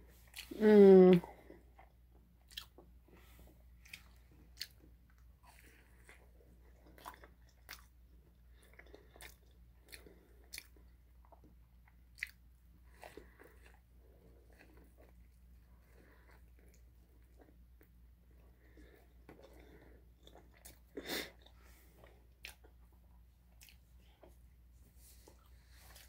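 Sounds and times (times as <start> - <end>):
faint chewing: 0.1 - 26.0.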